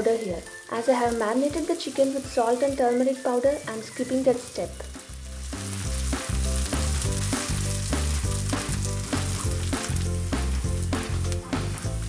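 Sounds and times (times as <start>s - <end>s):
background music: 0.0s - 12.0s
onions sizzling in hot oil: 0.0s - 12.0s.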